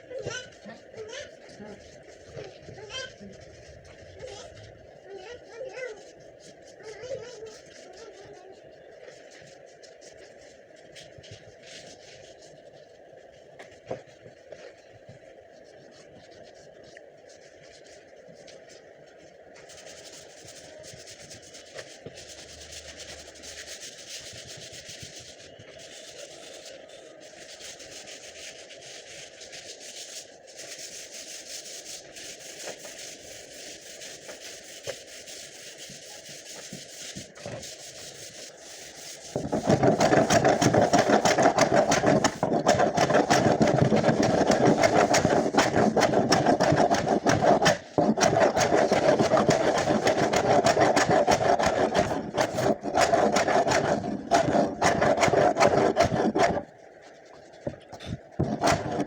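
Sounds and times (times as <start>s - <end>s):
steady rubbing sound: 0.0s - 59.0s.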